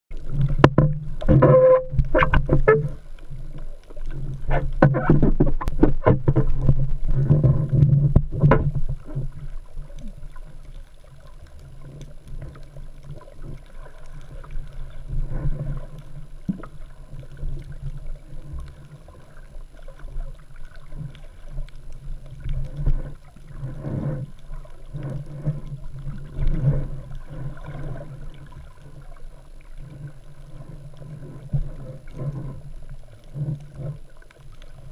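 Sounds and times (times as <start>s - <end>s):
muffled underwater water noise: 0.1s - 34.9s
water sloshing: 0.1s - 34.9s.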